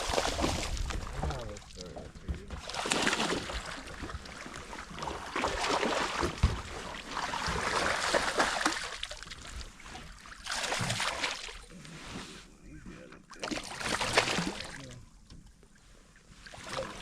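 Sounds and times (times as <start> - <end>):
water sloshing around boat: 0.0 - 17.0.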